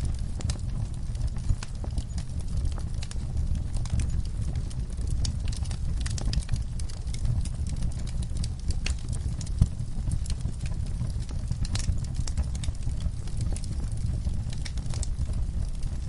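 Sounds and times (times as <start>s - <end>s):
sharp pops of fire: 0.0s - 16.0s
wood fire crackling: 0.0s - 16.0s.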